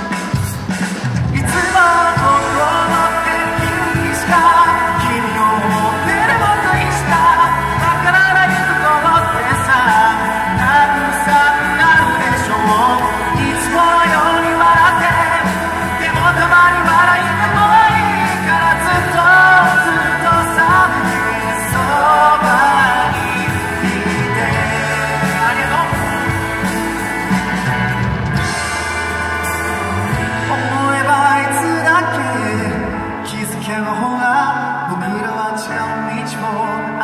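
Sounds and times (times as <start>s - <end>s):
man singing pop song: 0.0s - 27.6s, 30.1s - 37.0s
pop accompaniment with bass: 0.0s - 37.0s.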